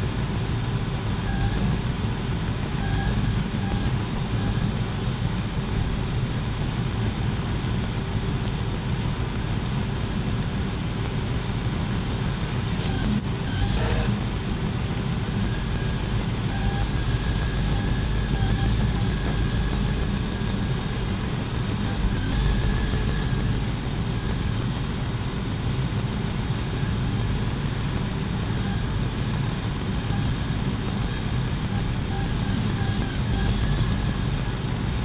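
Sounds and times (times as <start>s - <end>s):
faint high whine: 0.0s - 35.0s.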